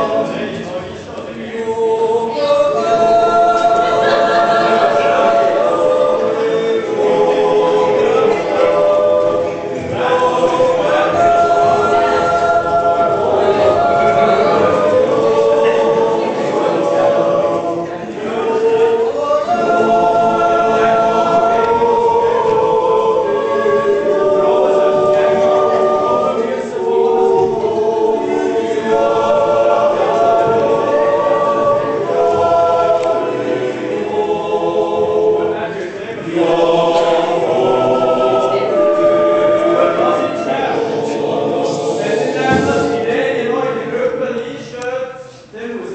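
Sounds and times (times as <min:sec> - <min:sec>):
choir yodeling unaccompanied: 0:00.0 - 0:45.9.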